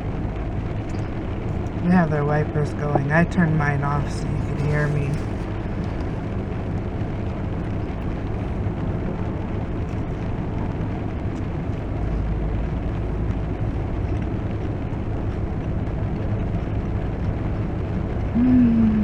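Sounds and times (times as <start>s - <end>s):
rain on a car roof: 0.0s - 18.4s
low hum: 0.0s - 19.0s.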